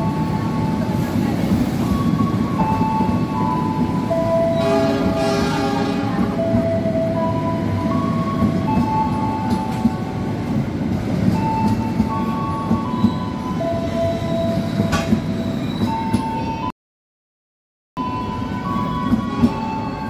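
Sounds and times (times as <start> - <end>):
train wheels rumbling on rails: 0.0 - 16.7, 18.2 - 20.0.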